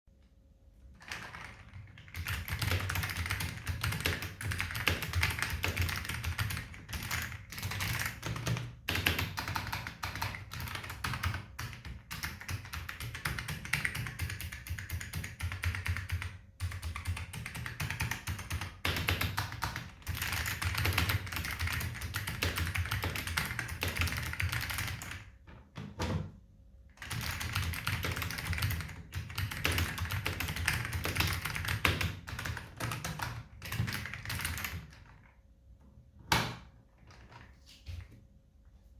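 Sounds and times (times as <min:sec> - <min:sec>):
mechanical keyboard typing: 0:01.0 - 0:25.3, 0:27.0 - 0:35.4.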